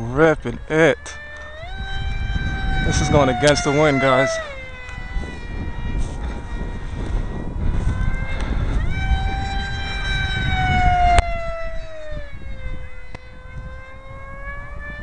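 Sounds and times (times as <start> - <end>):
electric motor whining: 0.0 - 15.0
wind rumble on microphone: 0.0 - 15.0.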